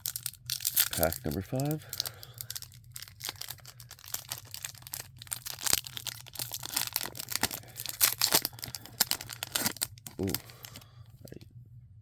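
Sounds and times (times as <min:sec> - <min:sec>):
card pack wrapper crinkling: 0:00.0 - 0:10.9.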